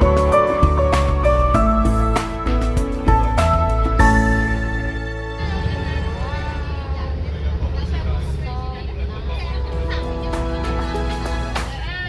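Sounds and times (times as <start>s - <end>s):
bus rumble: 0.0s - 12.0s.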